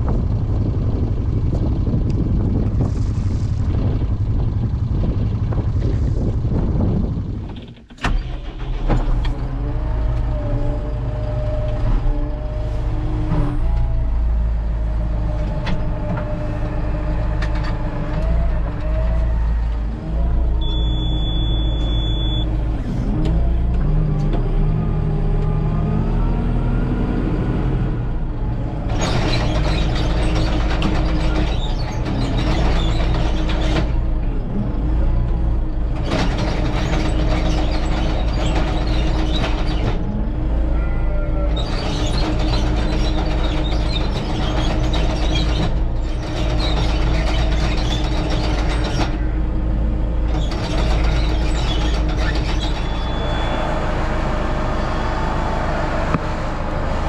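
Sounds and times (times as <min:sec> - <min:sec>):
tractor engine revving: 0:00.0 - 0:57.0.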